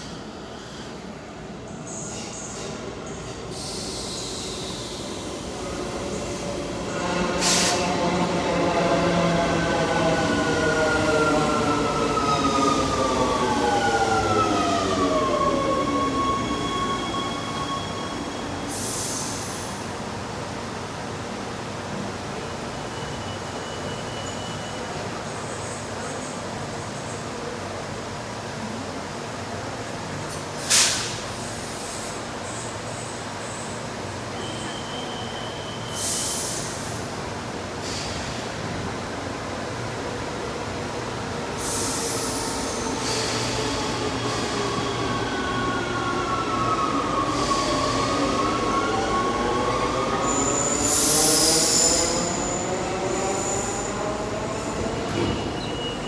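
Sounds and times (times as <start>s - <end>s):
metro train rumbling: 0.0s - 56.0s.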